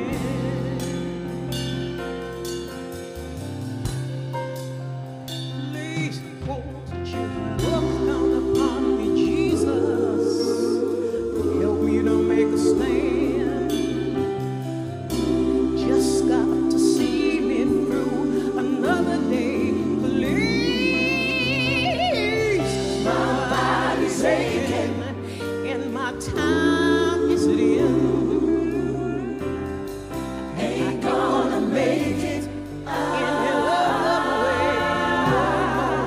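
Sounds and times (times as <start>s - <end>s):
gospel choir singing: 0.0s - 2.6s, 7.0s - 36.0s
live band playing: 0.0s - 17.1s, 17.7s - 36.0s.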